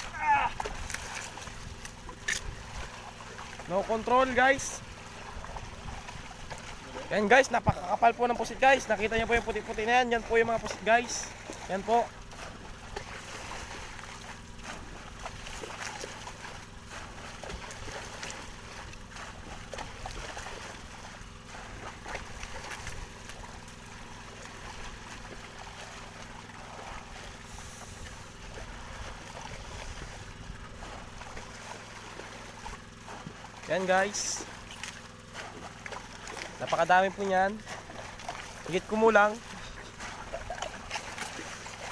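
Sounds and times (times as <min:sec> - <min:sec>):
sea water splashing and sloshing: 0:00.0 - 0:41.9
steady low hum: 0:00.0 - 0:41.9.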